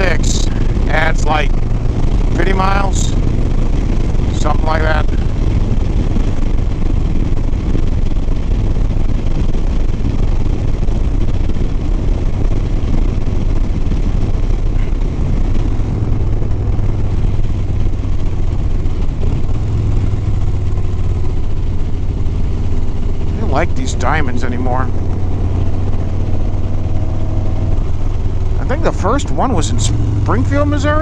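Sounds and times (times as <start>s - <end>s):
motorcycle engine running: 0.0s - 31.0s
wind and road noise: 0.0s - 31.0s.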